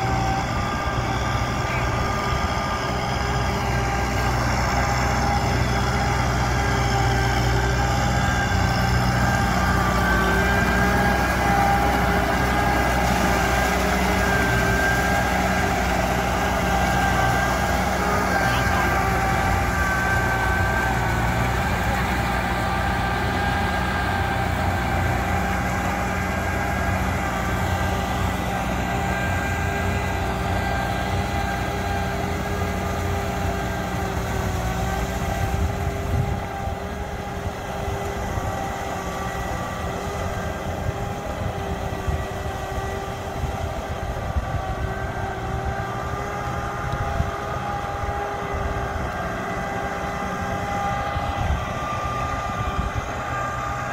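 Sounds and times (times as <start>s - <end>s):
diesel farm machinery running: 0.0s - 53.9s
steady machine whine: 0.0s - 53.9s.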